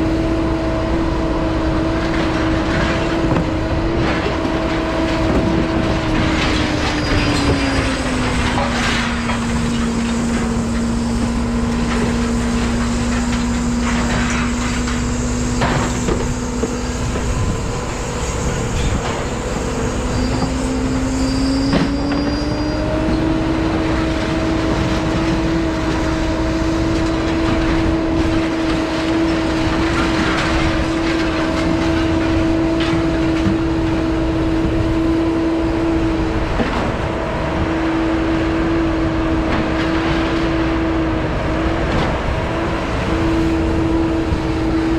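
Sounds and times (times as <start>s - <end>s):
vehicle interior road rumble: 0.0s - 44.9s.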